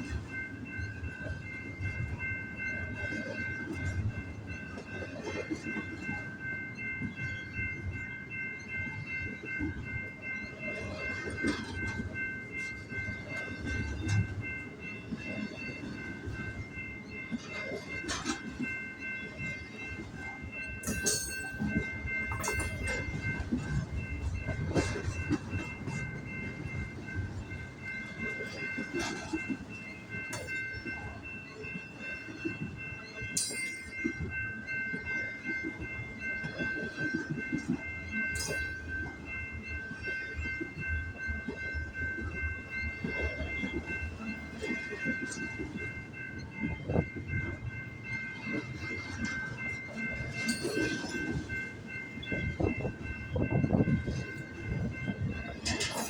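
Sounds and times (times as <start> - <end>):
high-pitched ringing tone: 0.0 - 56.0.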